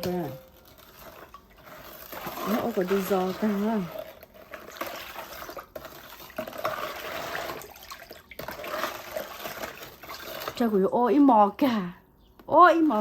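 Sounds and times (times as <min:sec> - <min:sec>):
liquid sloshing and trickling: 0:00.0 - 0:10.9.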